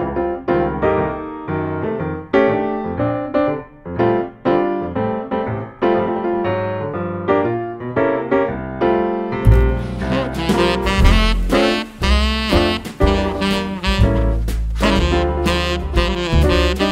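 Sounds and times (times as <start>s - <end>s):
piano playing chords: 0.0s - 16.9s.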